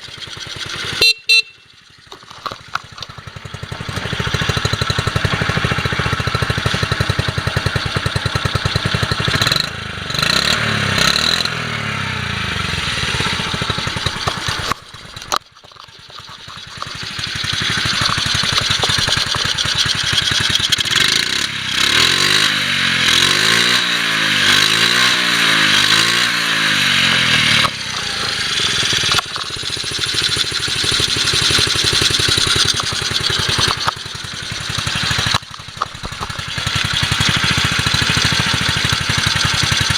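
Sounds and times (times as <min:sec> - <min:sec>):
motorcycle engine running and revving: 0:00.0 - 0:39.9.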